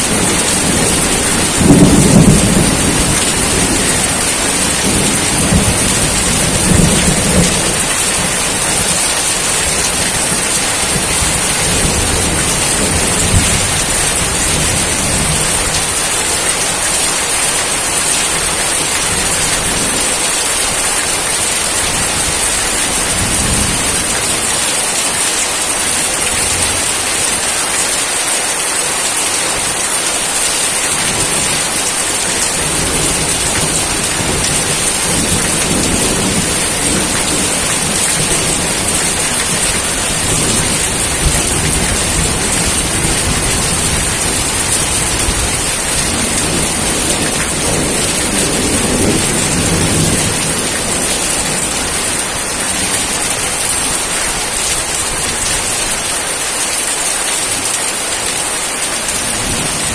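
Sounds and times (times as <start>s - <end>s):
low thunder rumbles: 0.0s - 24.6s, 29.6s - 55.9s
heavy rainfall: 0.0s - 59.9s.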